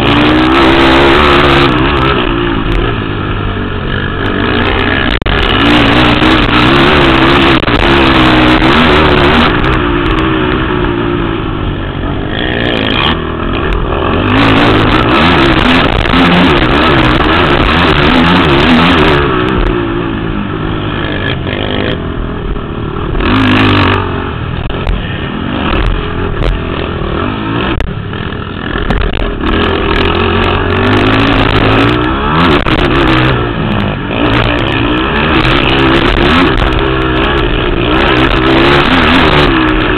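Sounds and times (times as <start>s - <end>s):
quad engines revving past: 0.0s - 22.2s, 23.0s - 39.9s.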